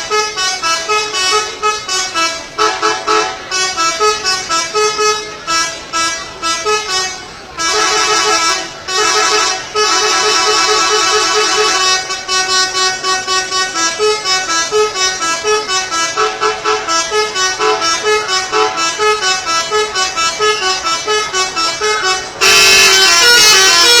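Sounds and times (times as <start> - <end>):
multi-tone air horn tune: 0.0 - 24.0.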